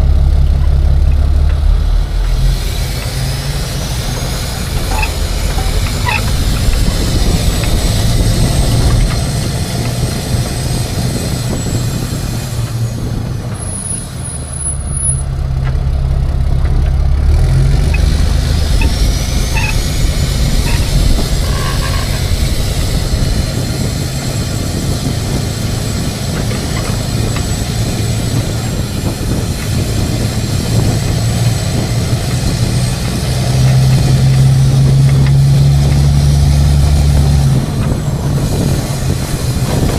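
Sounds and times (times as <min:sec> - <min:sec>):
high whine: 0:00.0 - 0:32.7
truck engine from inside cab: 0:00.0 - 0:39.9.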